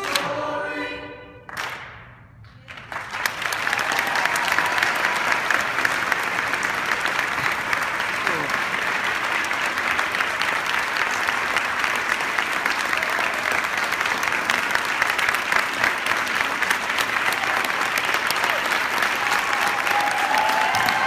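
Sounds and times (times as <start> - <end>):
audience applauding: 2.6 - 21.0.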